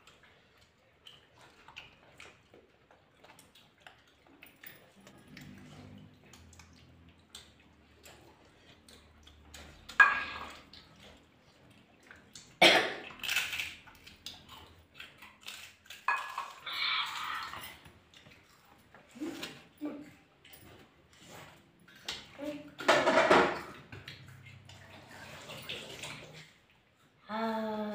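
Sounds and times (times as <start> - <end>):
eating noises: 0.0 - 22.8, 23.6 - 27.2.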